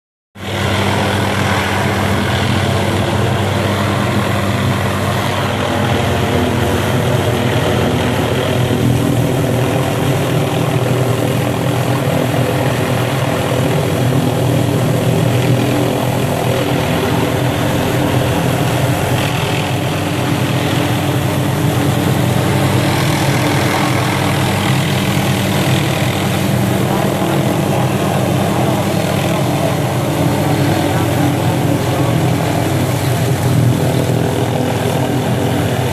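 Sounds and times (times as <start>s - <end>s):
helicopter hovering: 0.4s - 35.9s.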